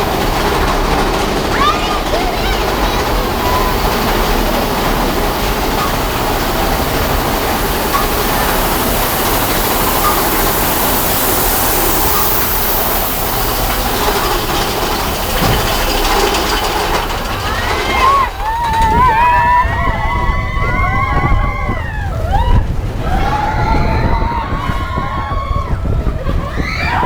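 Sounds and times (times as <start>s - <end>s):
roller coaster rumbling on track: 0.0s - 27.0s.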